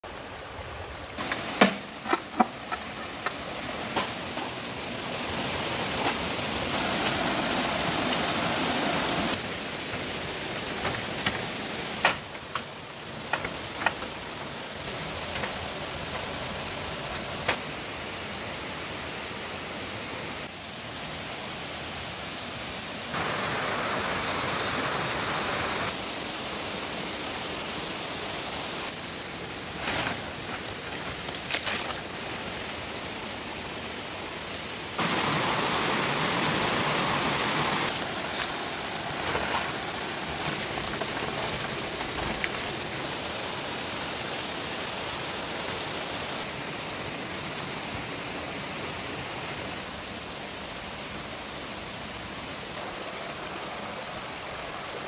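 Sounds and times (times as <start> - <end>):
steady hiss: 0.0 - 55.0
insects buzzing: 0.1 - 18.5, 23.1 - 55.0.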